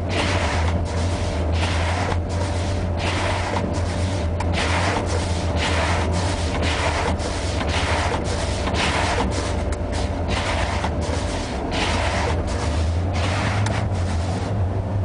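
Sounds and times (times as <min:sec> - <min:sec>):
wiper blades scraping windshield: 0:00.0 - 0:14.7
truck engine idling: 0:00.0 - 0:15.0.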